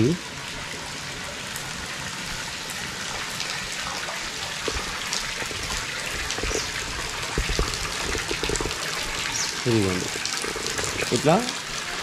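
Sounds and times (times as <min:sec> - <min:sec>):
water splashing from spout: 0:00.0 - 0:12.0.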